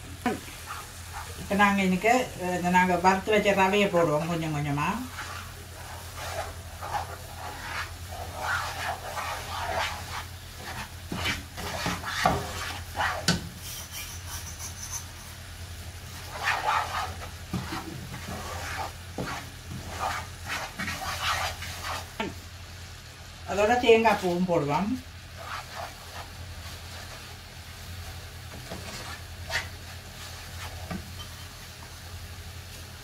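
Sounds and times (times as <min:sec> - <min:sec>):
sizzling syrup: 0:00.0 - 0:33.0
spatula scraping in a pan: 0:00.2 - 0:22.4, 0:23.7 - 0:32.9.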